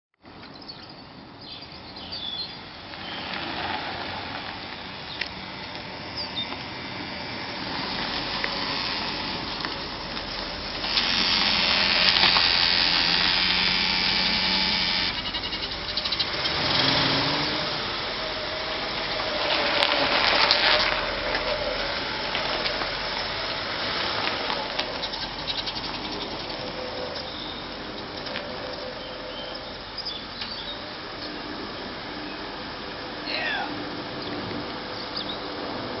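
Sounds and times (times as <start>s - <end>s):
car engine running: 1.9s - 36.0s
strange mechanical noise: 2.6s - 36.0s.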